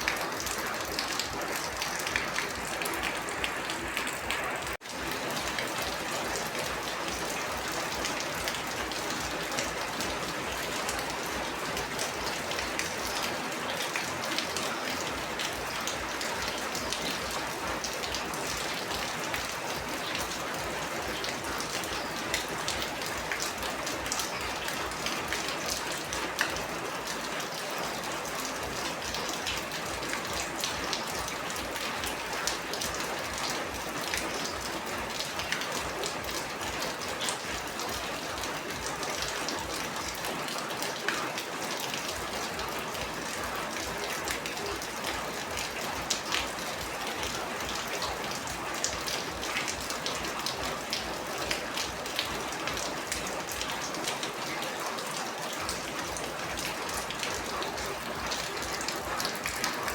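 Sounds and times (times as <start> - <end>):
steady rain pattering: 0.0 - 59.9.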